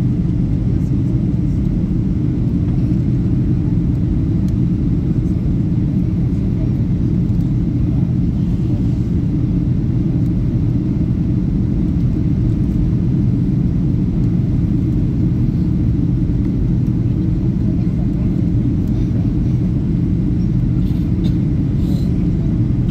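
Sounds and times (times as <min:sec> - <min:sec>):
airliner cabin rumble: 0:00.0 - 0:22.9.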